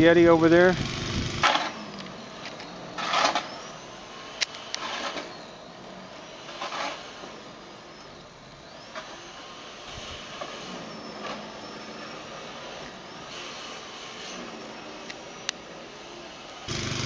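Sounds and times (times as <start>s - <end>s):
distant snowblower engine hum: 0.0s - 17.0s.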